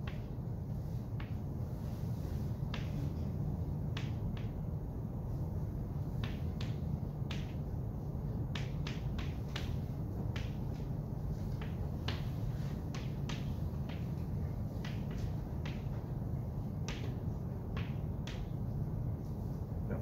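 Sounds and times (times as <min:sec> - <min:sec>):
chalk tapping on a blackboard: 0:00.0 - 0:04.7, 0:06.0 - 0:19.5
low room hum: 0:00.0 - 0:20.0.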